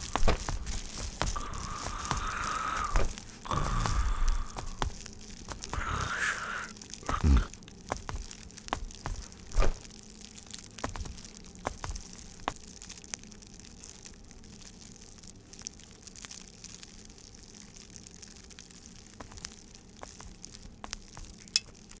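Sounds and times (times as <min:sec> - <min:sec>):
low steady hum and hiss: 0:00.0 - 0:22.0.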